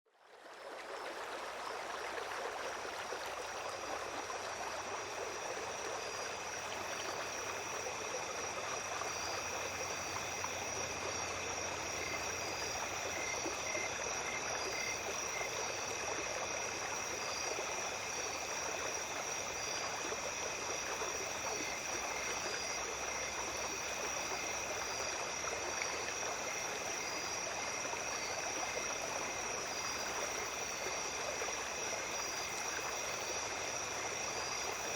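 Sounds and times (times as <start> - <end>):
stream babbling: 0.2 - 34.9
night insects chorus: 0.6 - 34.9.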